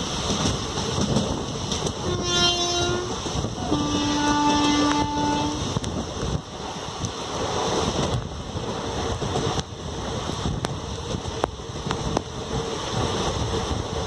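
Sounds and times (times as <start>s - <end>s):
train running noise: 0.0s - 14.0s
wind rushing over microphone: 0.0s - 14.0s.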